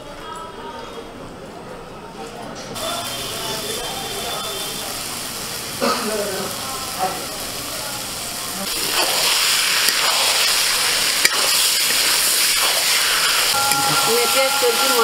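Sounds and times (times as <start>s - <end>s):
food sizzling in a pan: 2.8s - 15.0s.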